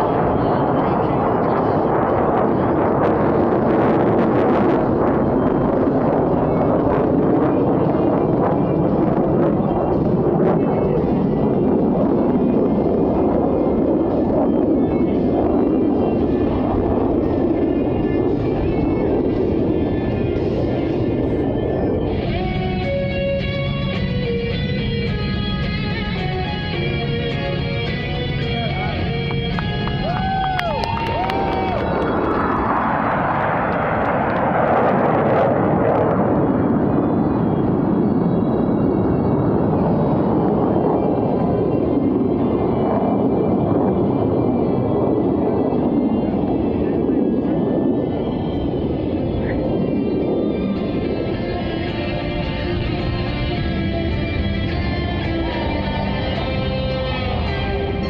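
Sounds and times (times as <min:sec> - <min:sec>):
jet roar overhead: 0:00.0 - 0:58.0.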